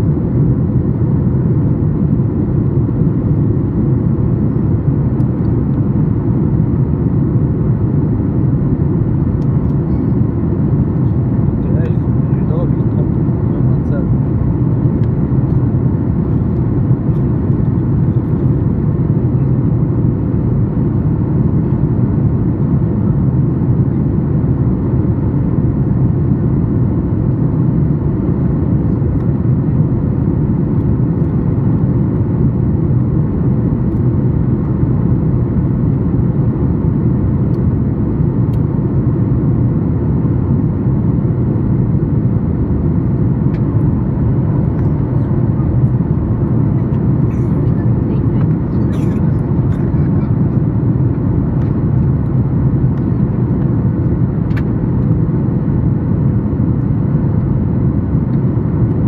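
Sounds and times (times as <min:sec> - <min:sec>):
airflow over fuselage: 0:00.0 - 0:59.0
jet engines rumbling: 0:00.0 - 0:59.0.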